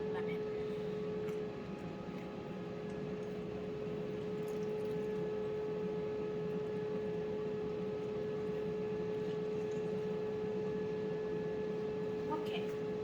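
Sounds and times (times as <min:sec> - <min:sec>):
air fryer fan humming: 0:00.0 - 0:13.0.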